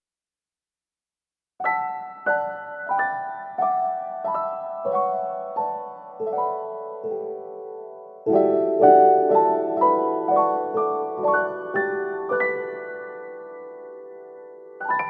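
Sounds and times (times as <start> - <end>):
gentle piano notes: 1.6 - 15.0.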